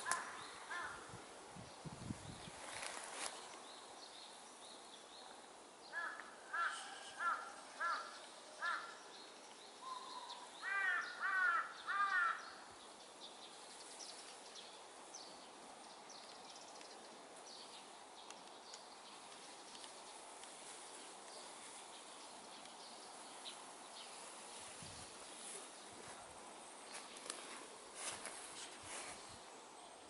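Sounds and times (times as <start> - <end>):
faint birdsong twittering: 0.0 - 30.0.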